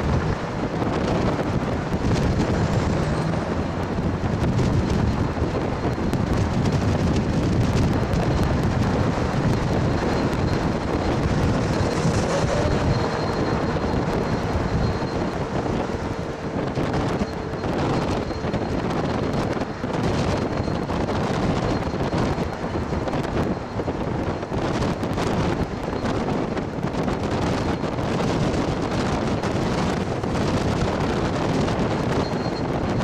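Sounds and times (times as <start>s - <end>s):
steam locomotive rumble: 0.0s - 33.0s
wind rushing over microphone: 0.0s - 33.0s.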